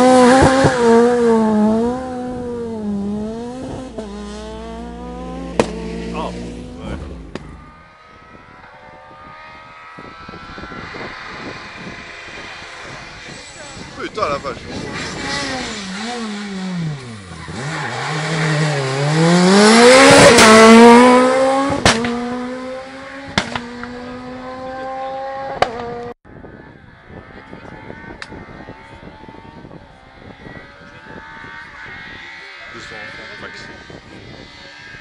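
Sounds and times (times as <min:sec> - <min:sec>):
rally car engine accelerating: 0:00.0 - 0:35.0.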